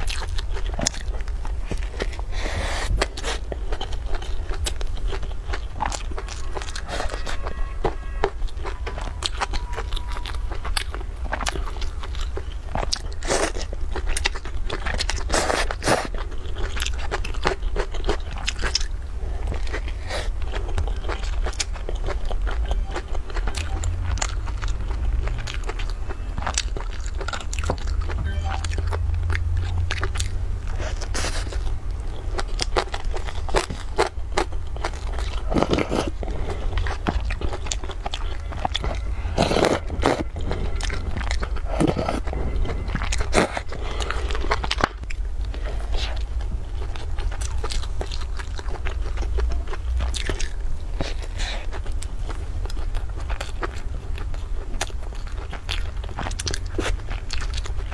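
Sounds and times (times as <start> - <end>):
mouth chewing soft bun: 0.0 - 57.9
steady low hum: 0.0 - 57.9.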